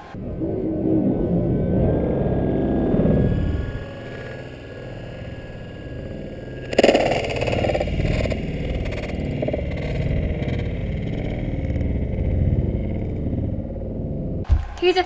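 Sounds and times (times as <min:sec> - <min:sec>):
model airplane motor droning: 0:00.0 - 0:14.5
wind rush over microphone: 0:00.0 - 0:14.5.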